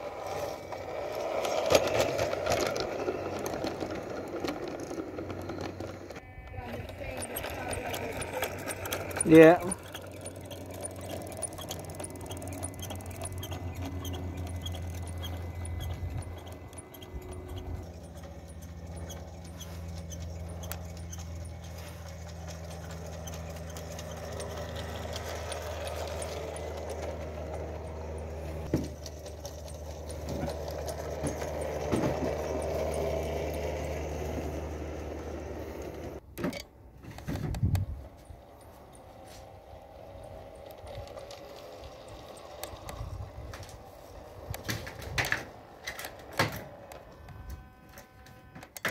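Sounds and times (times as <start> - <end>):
model train motor hum: 0.0 - 36.2, 37.8 - 48.9
wheels rattling: 0.0 - 36.2, 37.0 - 48.9.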